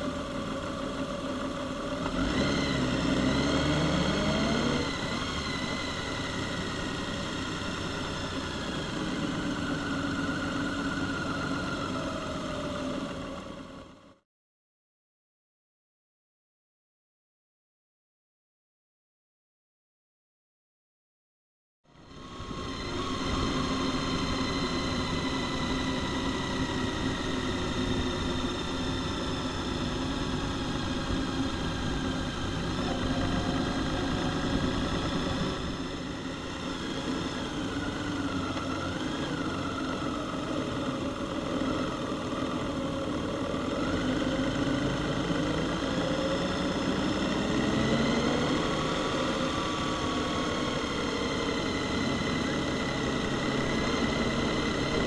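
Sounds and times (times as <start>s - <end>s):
motorcycle engines humming: 0.0s - 14.1s, 22.0s - 55.0s
road and wind noise: 0.0s - 14.1s, 22.0s - 55.0s.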